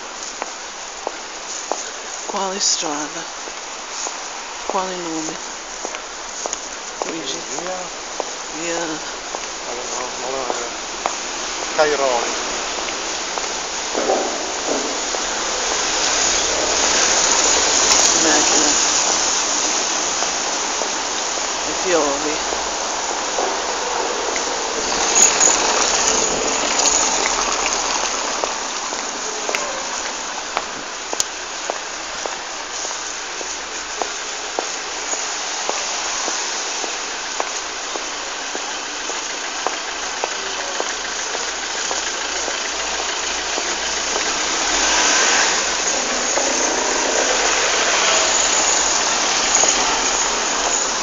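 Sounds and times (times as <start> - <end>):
rain on wet cobbles: 0.0 - 51.0
vehicle engines on wet road: 0.0 - 51.0.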